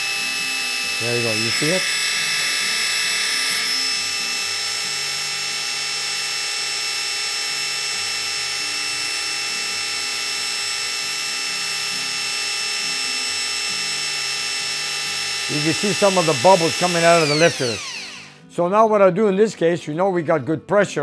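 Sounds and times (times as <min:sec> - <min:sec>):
electric drill running: 0:00.0 - 0:18.5.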